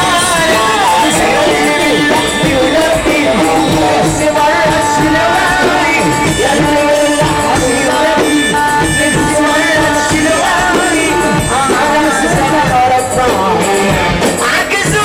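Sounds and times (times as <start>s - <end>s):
ornamented melodic lead: 0.0s - 15.0s
steady percussion beat: 0.0s - 15.0s.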